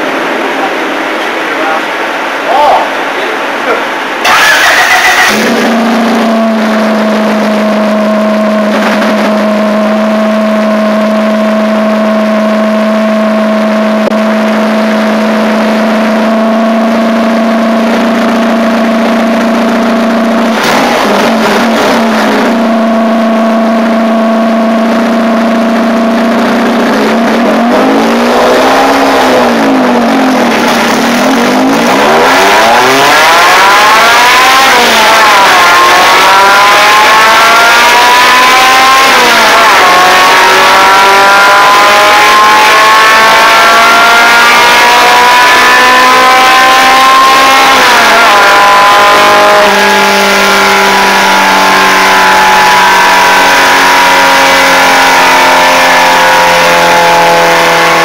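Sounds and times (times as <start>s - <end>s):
car engine droning and revving: 0.0s - 58.0s.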